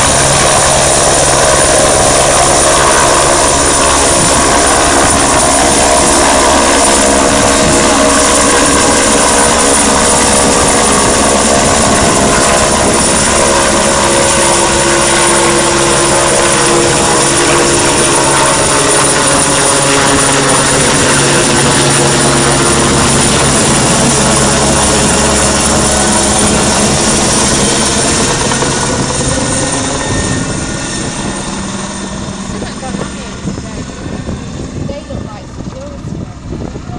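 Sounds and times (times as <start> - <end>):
helicopter rotor and engine: 0.0 - 36.9.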